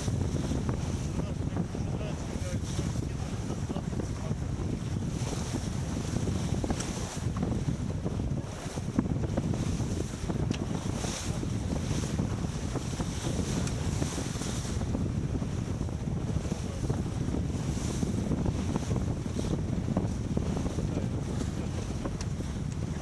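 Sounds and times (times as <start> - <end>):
water rushing along hull: 0.0 - 23.0
wind buffeting microphone: 0.0 - 23.0.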